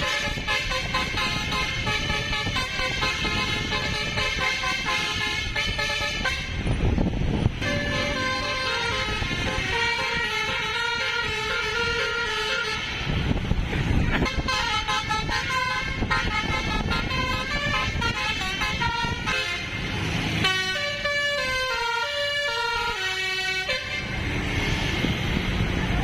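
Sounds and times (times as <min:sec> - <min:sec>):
multi-tone bus horn melody: 0:00.0 - 0:25.3.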